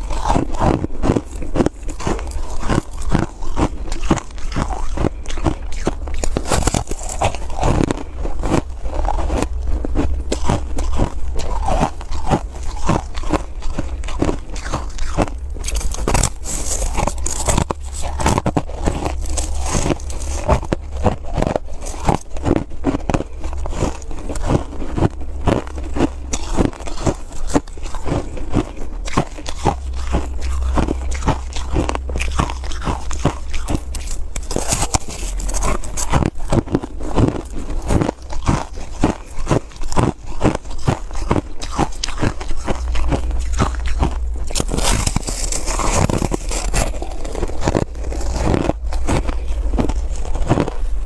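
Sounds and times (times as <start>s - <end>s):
ice being bitten and chewed: 0.0s - 51.0s.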